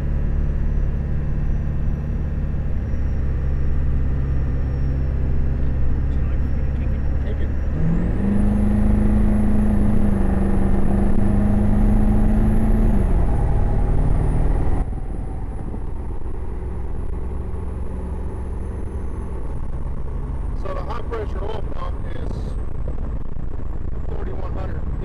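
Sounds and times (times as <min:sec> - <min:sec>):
diesel engine drone: 0:00.0 - 0:25.0
road noise: 0:00.0 - 0:25.0.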